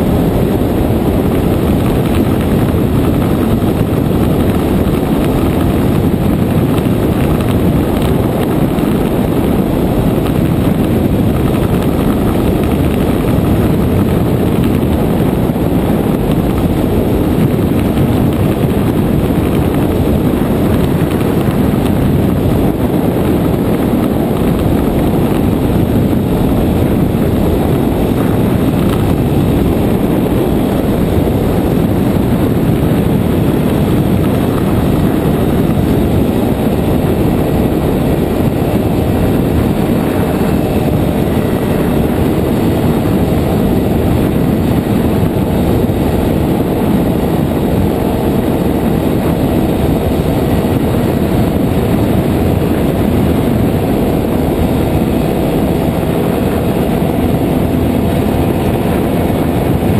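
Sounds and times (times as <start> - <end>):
aircraft engine and propeller running: 0.0 - 59.9.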